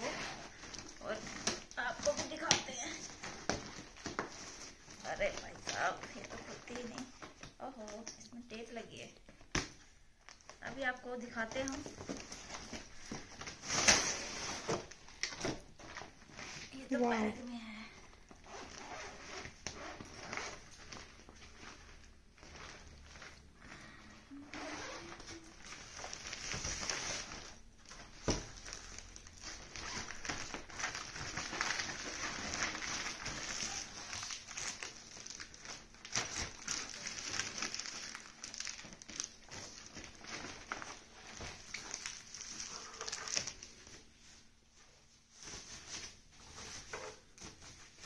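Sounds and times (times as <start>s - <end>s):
plastic wrapping crinkling: 0.0s - 48.0s.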